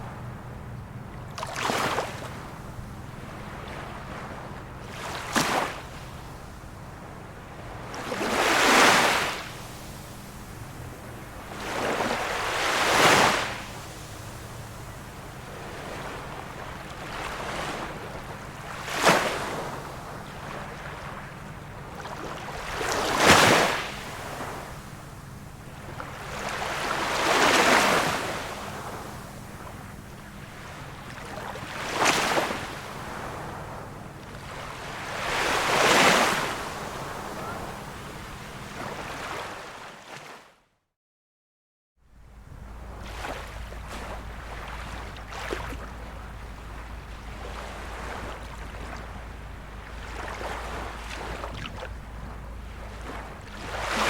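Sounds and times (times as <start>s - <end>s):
small waves washing in: 0.0s - 40.5s, 42.2s - 54.0s.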